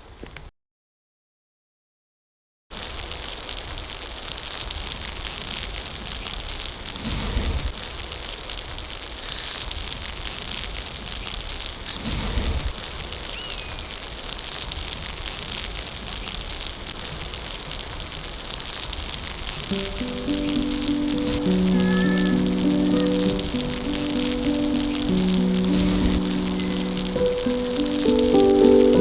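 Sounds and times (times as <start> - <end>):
snow pattering: 2.8 - 29.0.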